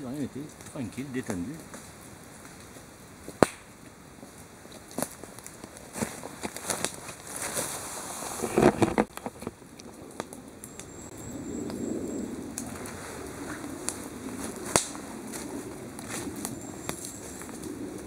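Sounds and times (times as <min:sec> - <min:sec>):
campfire wood crackling and popping: 0:00.0 - 0:18.0
low rush of burning fire: 0:00.0 - 0:18.0.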